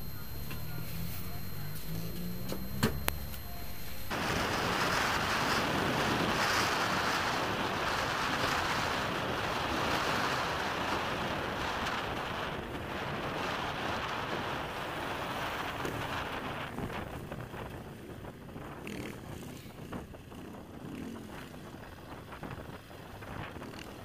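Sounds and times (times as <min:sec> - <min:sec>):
wind roaring over microphone: 0:00.0 - 0:24.0.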